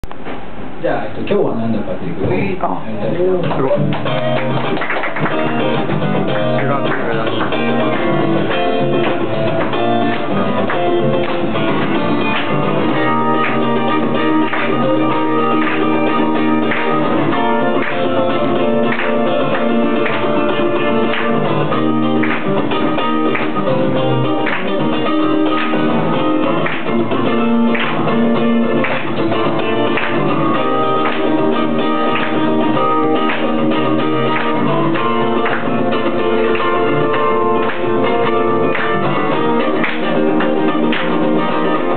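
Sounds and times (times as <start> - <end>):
electric guitar playing: 3.1 - 41.9
acoustic guitar strumming: 3.4 - 41.9.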